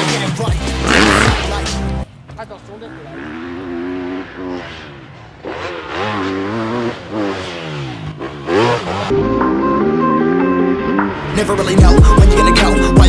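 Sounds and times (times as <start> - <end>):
motorbike engine revving: 0.5 - 2.0, 2.8 - 13.0.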